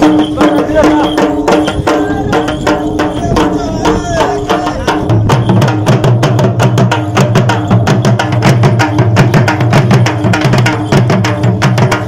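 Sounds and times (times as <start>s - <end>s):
drums beaten fast: 0.0s - 12.0s.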